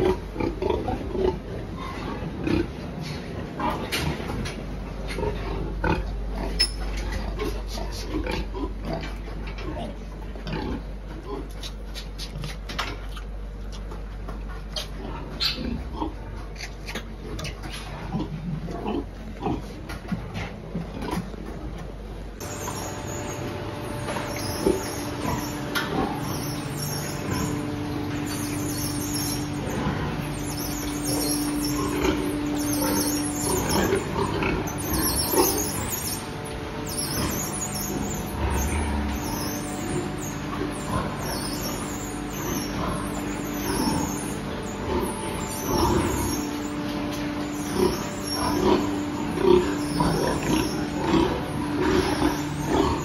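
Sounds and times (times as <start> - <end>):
pigs grunting and squealing: 0.0 - 21.4, 22.4 - 53.0
mechanical hum: 0.0 - 53.0.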